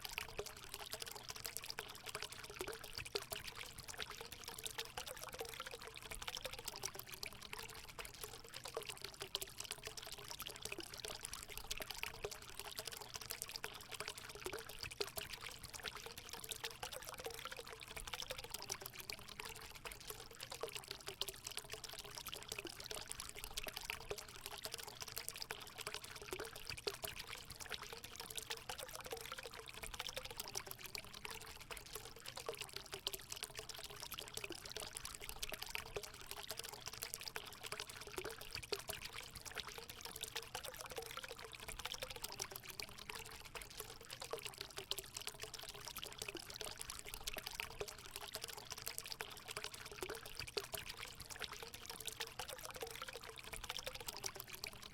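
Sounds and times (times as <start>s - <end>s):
water pouring and trickling: 0.0s - 54.9s.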